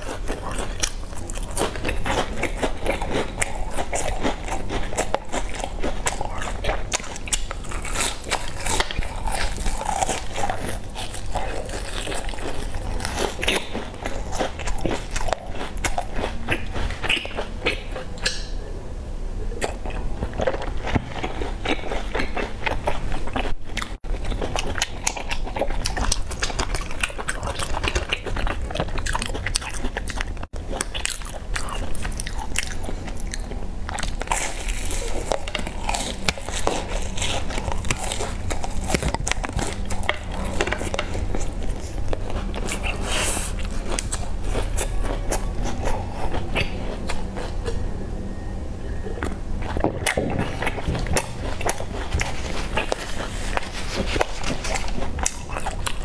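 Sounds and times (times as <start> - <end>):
crunching biscuits: 0.0 - 18.5, 19.6 - 47.8, 49.1 - 56.0.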